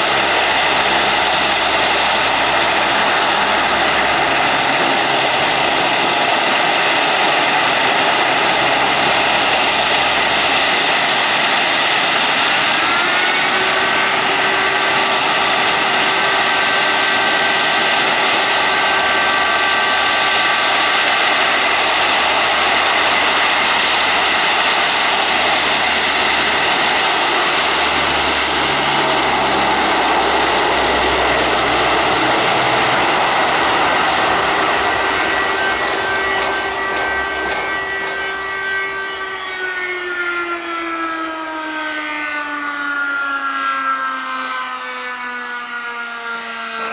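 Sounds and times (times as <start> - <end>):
turboprop engines running: 0.0 - 42.9
rising turbine whine: 0.0 - 46.9.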